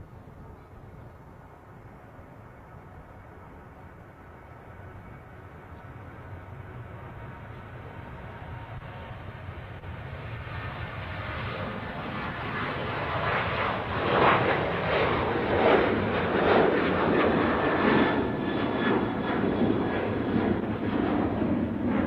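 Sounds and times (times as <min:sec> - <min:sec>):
jet engines roaring: 0:00.2 - 0:22.0.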